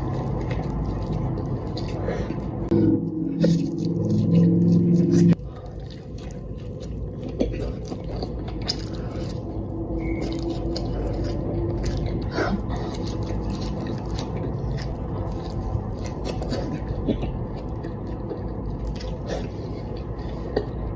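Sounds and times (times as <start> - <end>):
chewing close to microphone: 0.0 - 20.9
low background hum: 0.0 - 20.9.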